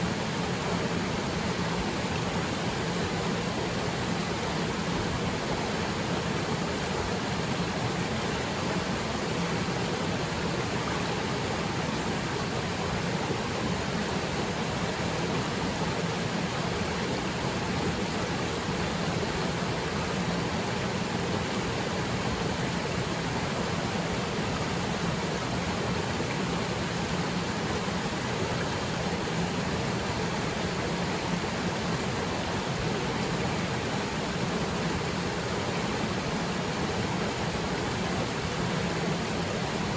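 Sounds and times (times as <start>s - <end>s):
waterfall rushing into pool: 0.0s - 39.9s.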